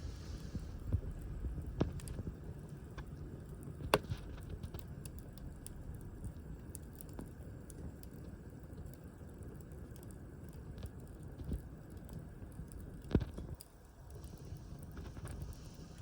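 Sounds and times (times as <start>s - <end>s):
firewood crackling in open fire: 0.0s - 16.0s.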